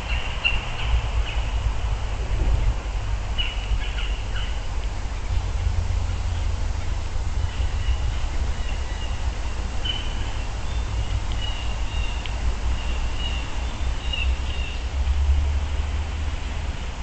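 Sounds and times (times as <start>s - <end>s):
birds chirping and warbling: 0.0s - 1.8s, 2.5s - 14.9s
steady low rumble: 0.0s - 17.0s.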